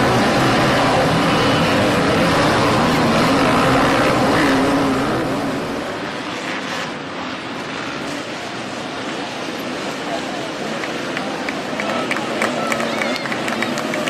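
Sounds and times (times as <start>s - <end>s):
vehicle engine running loudly: 0.0s - 14.0s.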